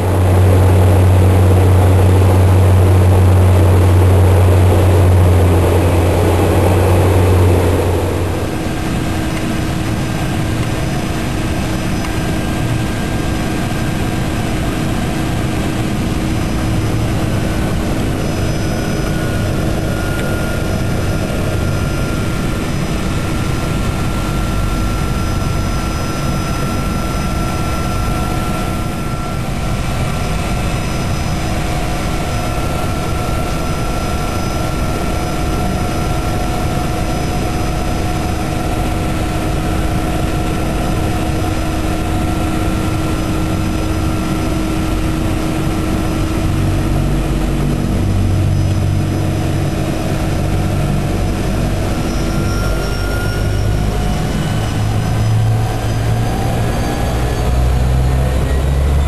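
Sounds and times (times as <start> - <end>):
high whining tones: 0.0 - 59.0
turboprop engine droning: 0.0 - 59.0.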